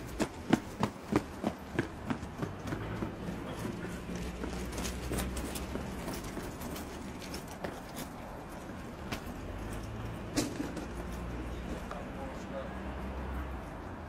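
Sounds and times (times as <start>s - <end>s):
footsteps on pavement: 0.0s - 12.7s.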